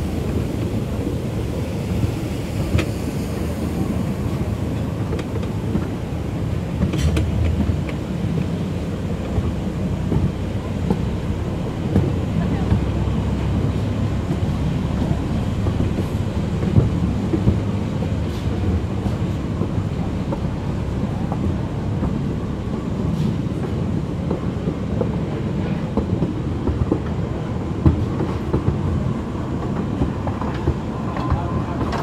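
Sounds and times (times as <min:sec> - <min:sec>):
wheels rumbling on rails: 0:00.0 - 0:32.0.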